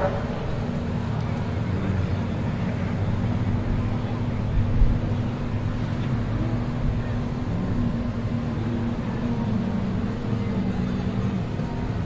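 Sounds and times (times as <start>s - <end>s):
car engines droning: 0.0s - 12.0s.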